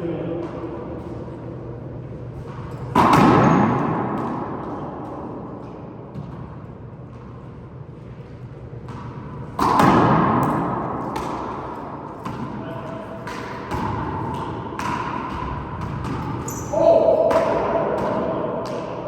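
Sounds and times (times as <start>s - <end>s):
ball thuds on handball court: 2.4s - 7.4s, 8.7s - 19.0s.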